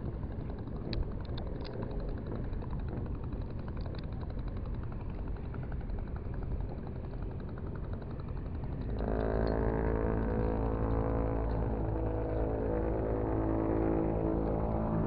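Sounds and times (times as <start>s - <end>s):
boat engine idling with knock: 0.0s - 15.0s
steady drone: 0.0s - 15.0s.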